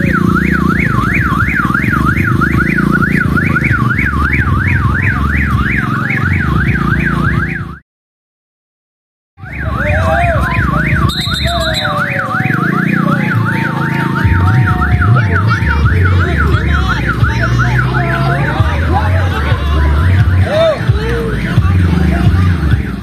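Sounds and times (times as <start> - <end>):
electronic siren yelping: 0.0 - 7.8, 9.4 - 23.0.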